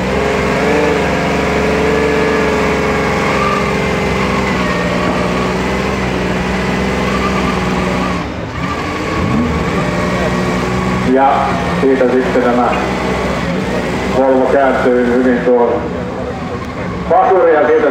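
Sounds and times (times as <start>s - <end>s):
car engine revving under load: 0.0s - 17.9s.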